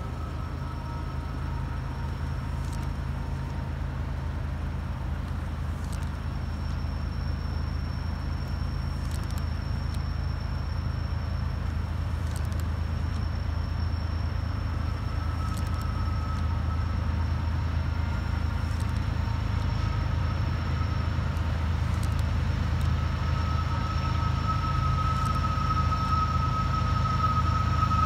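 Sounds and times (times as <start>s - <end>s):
freight train low rumble: 0.0s - 28.0s
thin high brake whine: 0.0s - 28.0s.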